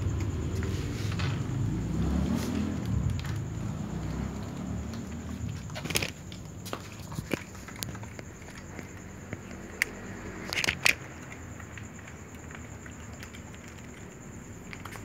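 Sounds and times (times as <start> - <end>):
cats chewing food: 0.0 - 15.0.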